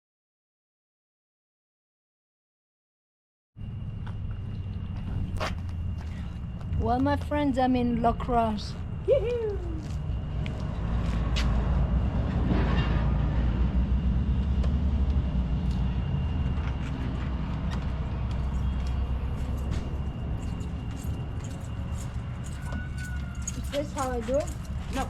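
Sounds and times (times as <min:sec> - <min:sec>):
passing vehicle rumble: 0:03.6 - 0:25.0.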